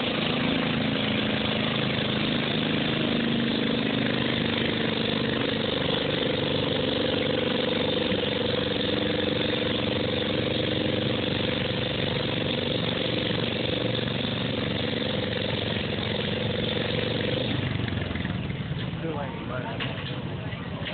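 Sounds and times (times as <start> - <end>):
garden tractor engine running: 0.0 - 20.9.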